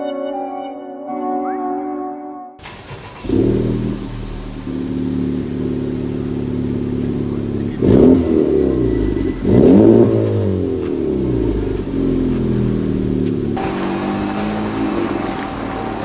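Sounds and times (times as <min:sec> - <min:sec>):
car engine idling and revving: 0:02.6 - 0:16.0.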